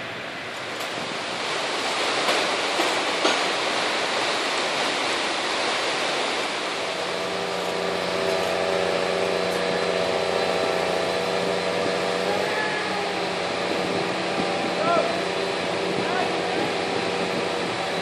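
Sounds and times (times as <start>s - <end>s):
crane engine humming: 0.0s - 18.0s
steady rushing noise: 0.0s - 18.0s.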